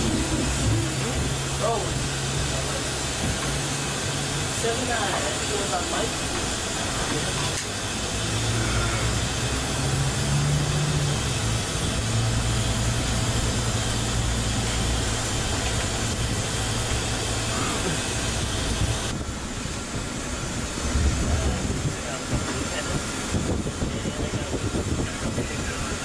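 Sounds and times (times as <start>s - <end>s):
van engine hum: 0.0s - 26.0s.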